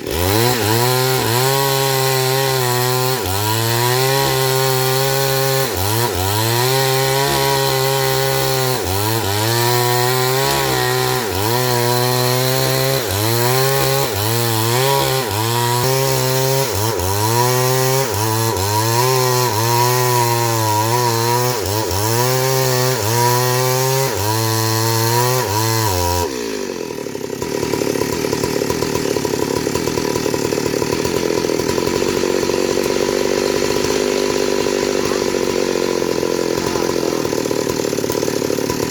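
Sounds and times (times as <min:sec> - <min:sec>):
chainsaw cutting tree trunk: 0:00.0 - 0:38.9.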